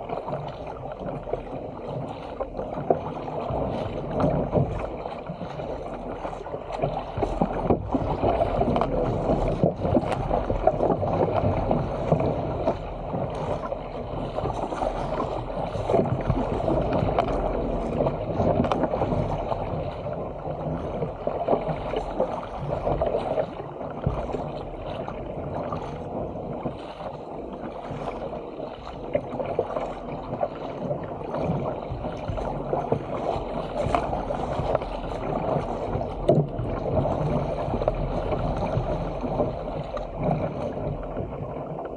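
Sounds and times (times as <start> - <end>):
paddle blades splashing: 0.0 - 41.9
water rushing along a hull: 0.0 - 41.9.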